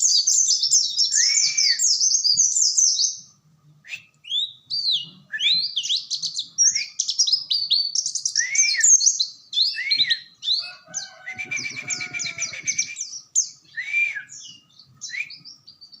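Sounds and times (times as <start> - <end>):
bird singing high chirps and trills: 0.0 - 16.0.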